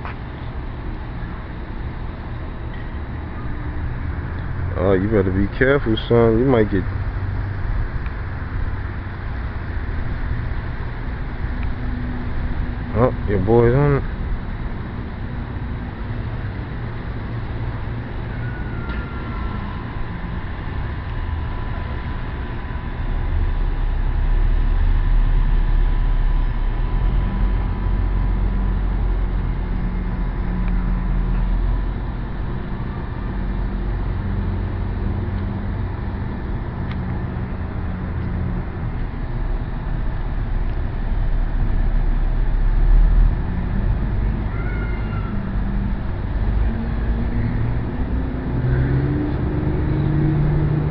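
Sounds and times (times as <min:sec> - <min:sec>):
low rumble of road traffic: 0:00.0 - 0:50.9.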